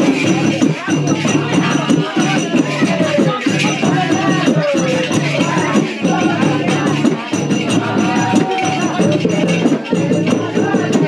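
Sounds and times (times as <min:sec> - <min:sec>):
rattling percussion: 0:00.0 - 0:11.0
singing: 0:00.0 - 0:11.0.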